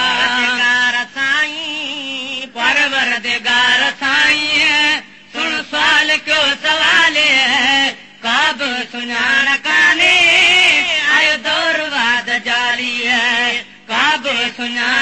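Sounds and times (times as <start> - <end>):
man singing devotional chant: 0.0 - 15.0.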